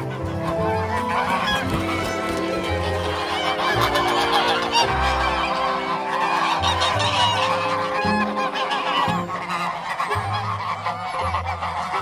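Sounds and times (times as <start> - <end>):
ganders fighting: 0.0 - 12.0
geese honking: 0.0 - 12.0.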